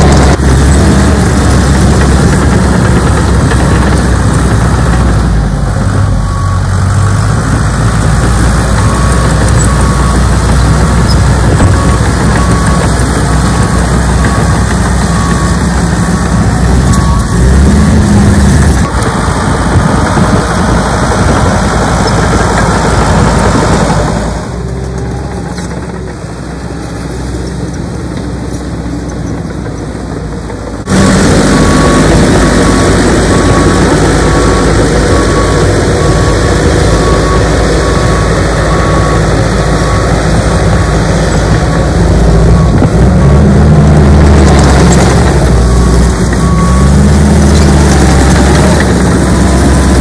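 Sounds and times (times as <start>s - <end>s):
regular beeping: 0.0s - 19.0s, 21.8s - 50.0s
heavy diesel engines running: 0.0s - 50.0s.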